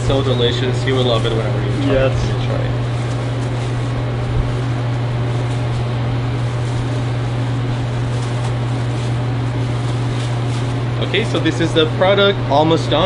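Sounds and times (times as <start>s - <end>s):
kitchen machinery hum and hiss: 0.0s - 13.0s.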